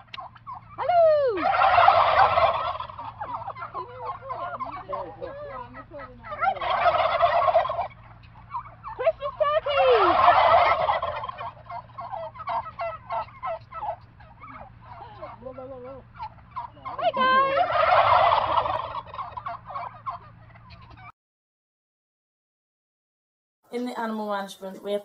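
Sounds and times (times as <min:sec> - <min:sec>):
turkeys gobbling: 0:00.0 - 0:21.1.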